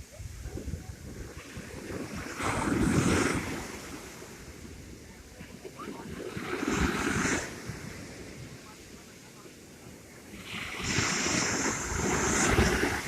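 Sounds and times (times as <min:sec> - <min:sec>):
sea wave breaking on shore: 0:00.0 - 0:13.0
wind buffeting microphone: 0:00.0 - 0:13.0.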